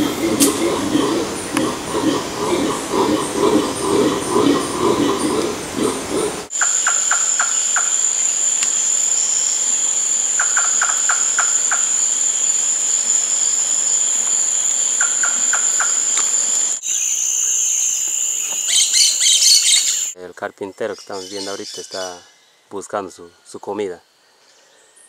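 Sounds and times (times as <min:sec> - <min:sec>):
insect chorus drone: 0:00.0 - 0:20.2.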